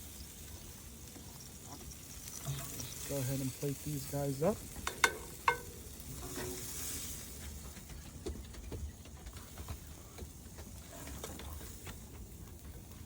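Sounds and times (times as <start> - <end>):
meat sizzling on a hot grill: 0.0 - 8.1, 9.6 - 13.0.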